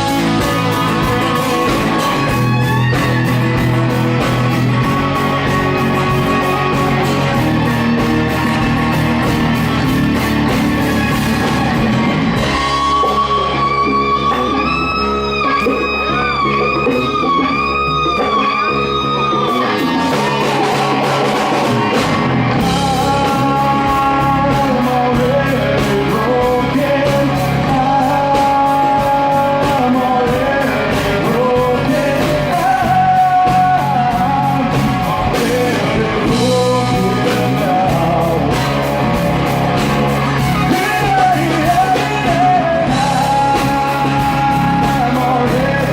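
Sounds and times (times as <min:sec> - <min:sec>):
melodic lead guitar line: 0:00.0 - 0:45.9
rock band playing live: 0:00.0 - 0:45.9.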